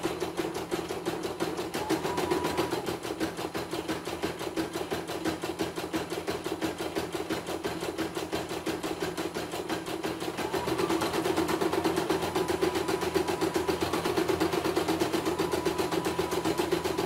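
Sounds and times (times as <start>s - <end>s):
embroidery machine stitching: 0.0s - 17.0s.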